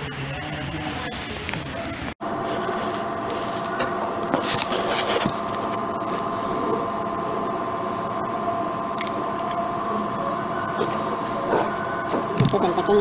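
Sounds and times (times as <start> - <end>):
steady two-tone machine hum: 0.0 - 13.0.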